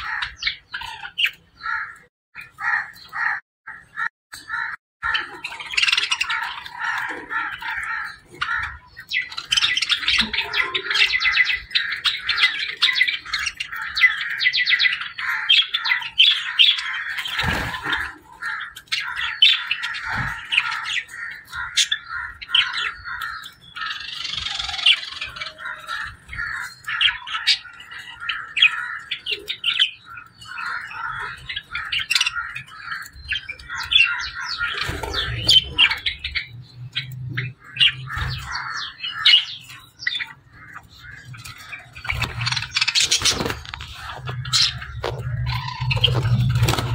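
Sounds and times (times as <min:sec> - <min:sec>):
budgerigars chirping and chattering: 0:00.0 - 0:46.9.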